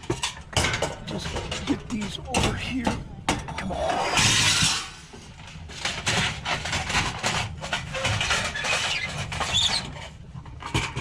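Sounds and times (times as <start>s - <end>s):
scrap items clattering: 0.0s - 3.6s, 4.2s - 11.0s.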